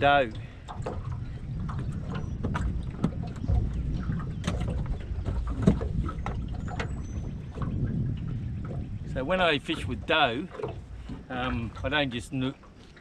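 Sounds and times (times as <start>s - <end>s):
steady low rumble: 0.0s - 12.3s
clicks and knocks in boat: 0.0s - 13.0s.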